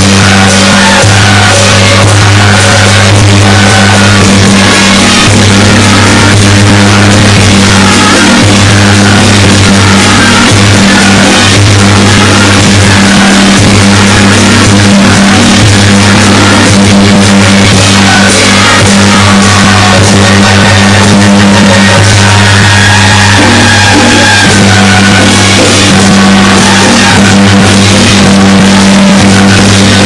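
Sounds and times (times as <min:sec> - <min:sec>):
loud traditional instrumental music: 0:00.0 - 0:30.0.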